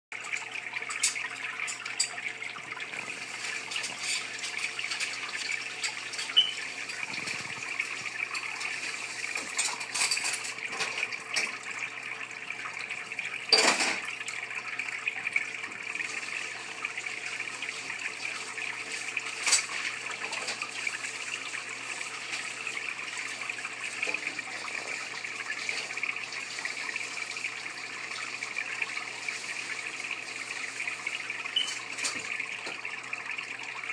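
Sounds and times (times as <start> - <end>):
aquarium water trickling: 0.1 - 33.9.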